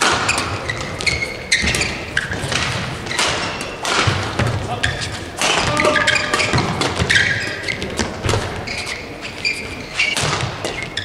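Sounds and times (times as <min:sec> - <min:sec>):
rackets hitting shuttlecock: 0:00.0 - 0:09.1, 0:10.0 - 0:11.0
shoes squeaking on court: 0:00.0 - 0:11.0.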